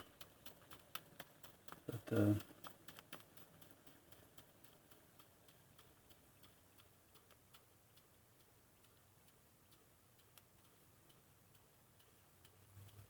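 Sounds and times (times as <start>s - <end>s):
steam engine ticking: 0.0s - 13.0s.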